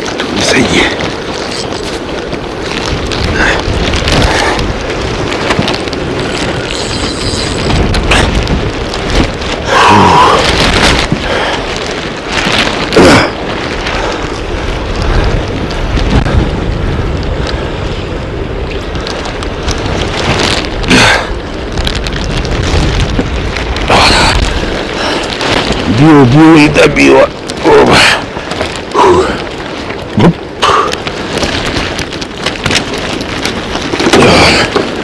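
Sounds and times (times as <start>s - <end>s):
heavy rain hiss: 0.0s - 35.0s
wind buffeting microphone: 0.0s - 35.0s.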